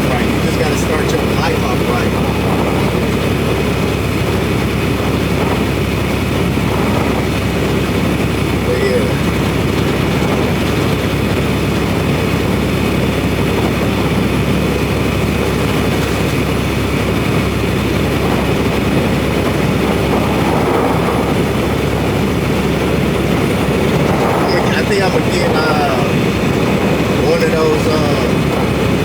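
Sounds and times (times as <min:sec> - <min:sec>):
truck engine and road drone: 0:00.0 - 0:29.0.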